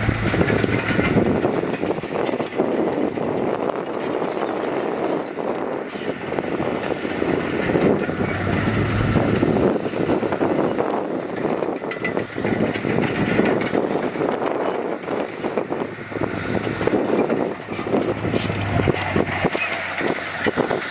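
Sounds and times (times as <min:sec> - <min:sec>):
diesel engine under load: 0:00.0 - 0:20.9.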